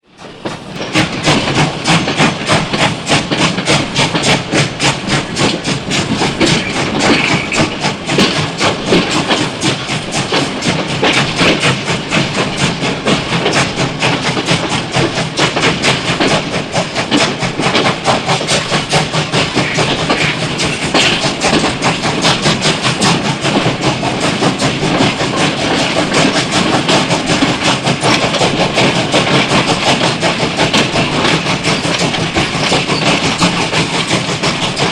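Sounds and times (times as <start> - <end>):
steam locomotive beats: 0.0 - 34.9
continuous steam hiss: 0.2 - 34.9.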